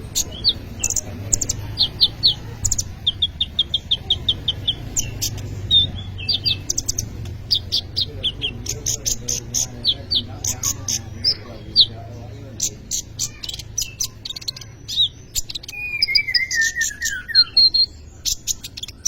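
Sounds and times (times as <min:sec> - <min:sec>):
sunbird singing: 0:00.0 - 0:19.0.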